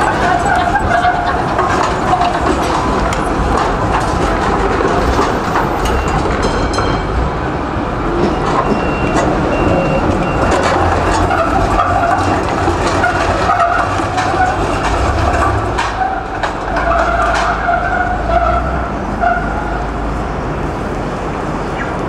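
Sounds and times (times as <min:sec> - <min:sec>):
city traffic: 0:00.0 - 0:22.0
tram rolling over rails: 0:00.0 - 0:22.0.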